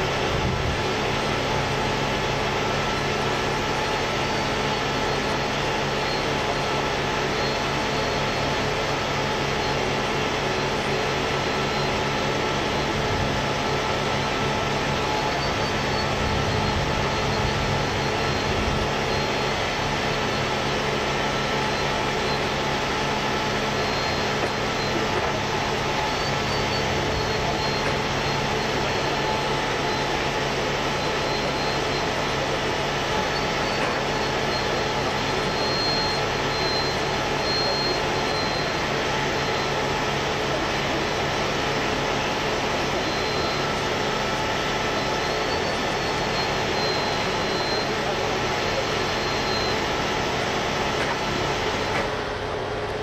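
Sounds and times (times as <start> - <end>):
faint high whine: 0.0 - 53.0
heavy diesel engines roaring: 0.0 - 53.0.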